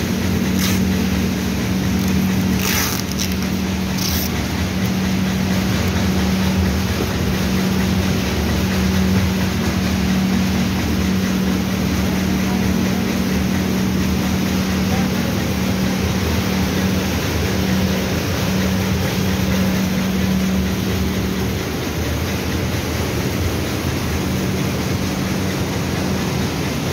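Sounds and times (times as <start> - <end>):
machinery running: 0.0 - 26.9.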